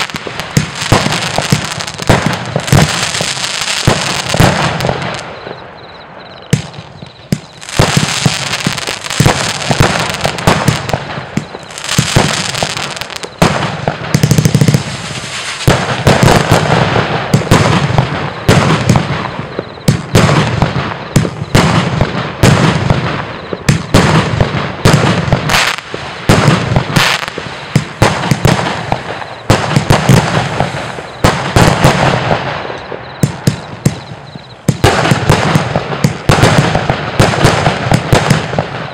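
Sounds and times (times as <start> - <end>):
fireworks banging and crackling: 0.0 - 38.9.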